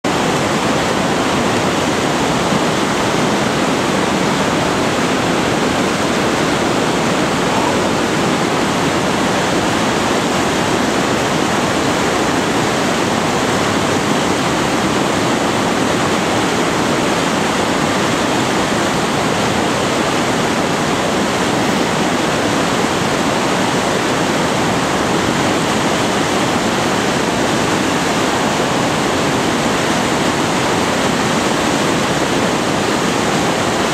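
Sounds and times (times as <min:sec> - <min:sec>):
whitewater rushing: 0:00.0 - 0:33.9.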